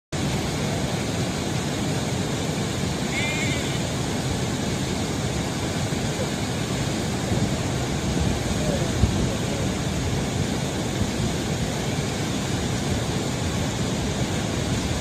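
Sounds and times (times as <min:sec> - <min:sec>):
steady rumbling noise: 0:00.1 - 0:15.0.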